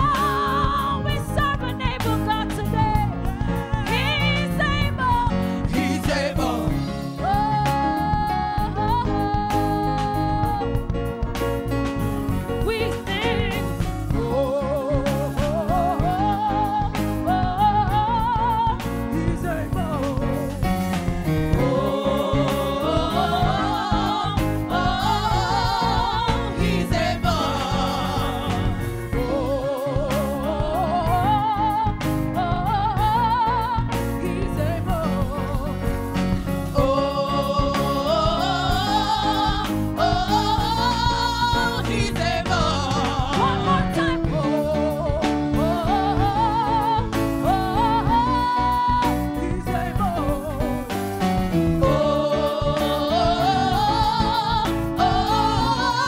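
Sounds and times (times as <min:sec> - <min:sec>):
gospel choir singing: 0:00.0 - 0:56.0
instrumental backing: 0:00.0 - 0:56.0.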